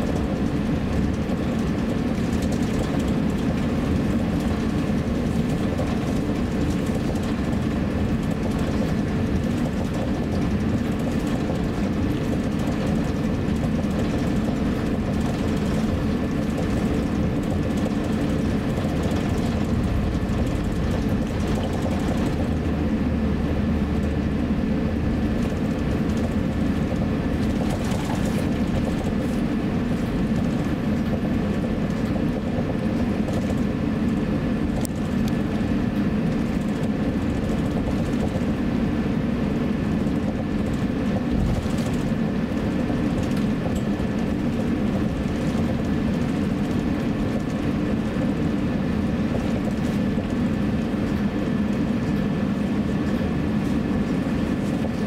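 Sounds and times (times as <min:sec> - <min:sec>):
jet cabin rumble: 0:00.0 - 0:55.0.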